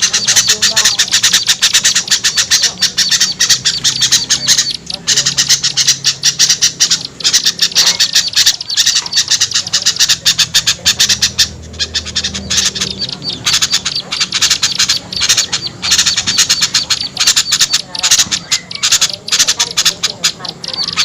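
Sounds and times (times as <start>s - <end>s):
small birds scolding chatter: 0.0s - 21.0s.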